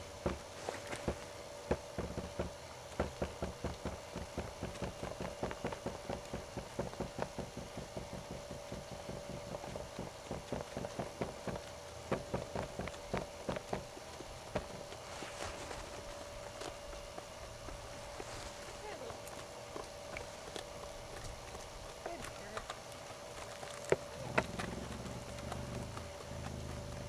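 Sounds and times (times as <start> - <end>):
horse hooves trotting: 0.0 - 27.0.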